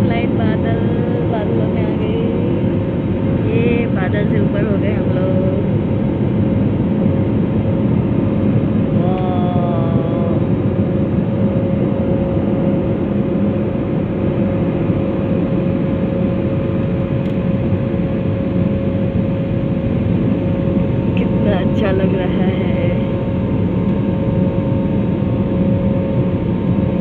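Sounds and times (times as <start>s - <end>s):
jet engines heard in cabin: 0.0s - 27.0s.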